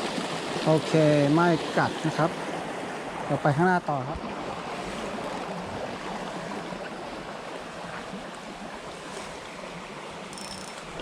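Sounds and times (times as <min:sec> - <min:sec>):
stream rushing over stones: 0:00.0 - 0:11.0.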